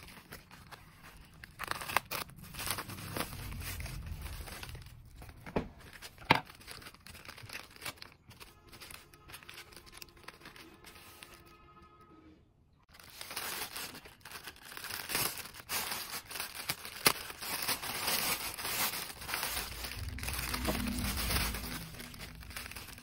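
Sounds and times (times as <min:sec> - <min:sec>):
plastic packaging tearing and crinkling: 0:00.0 - 0:11.5, 0:12.9 - 0:23.0.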